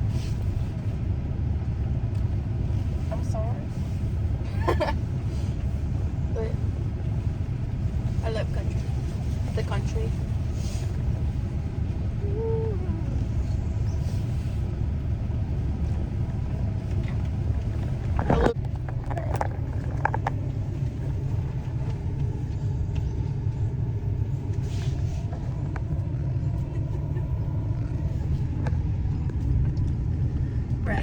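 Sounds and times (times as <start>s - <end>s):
car interior rumble: 0.0s - 31.0s.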